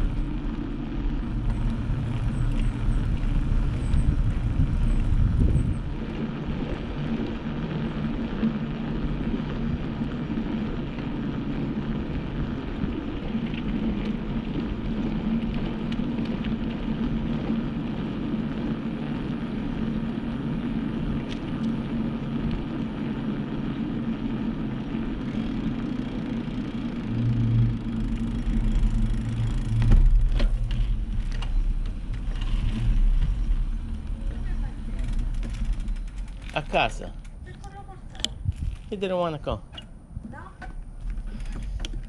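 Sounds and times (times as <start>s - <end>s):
steady hum: 0.0s - 38.7s
vehicle rolling noise: 0.0s - 42.0s
wind rumbling on microphone: 0.0s - 42.0s.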